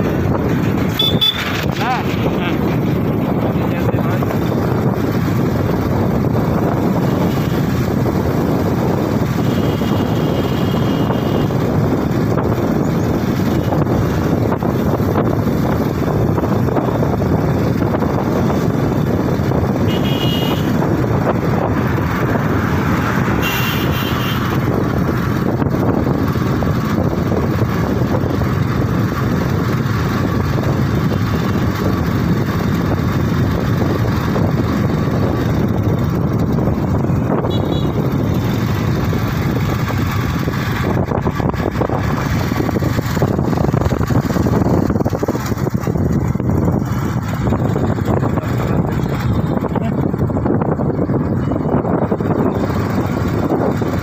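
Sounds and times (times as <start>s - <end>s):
motorcycle engine cruising: 0.0s - 54.0s
road noise: 0.0s - 54.0s
wind rushing over microphone: 0.0s - 54.0s.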